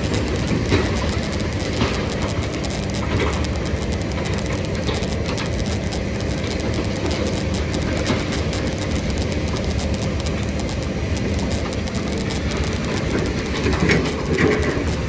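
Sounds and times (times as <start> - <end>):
diesel construction machinery running: 0.0 - 15.0.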